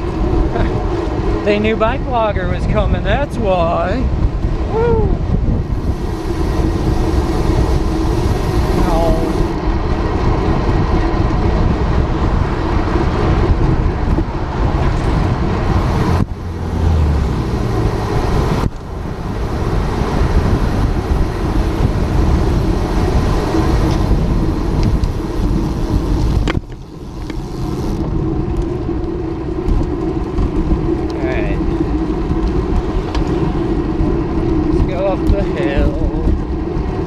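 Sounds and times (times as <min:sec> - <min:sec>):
road traffic passing: 0:00.0 - 0:37.0
wind buffeting microphone: 0:00.0 - 0:37.0.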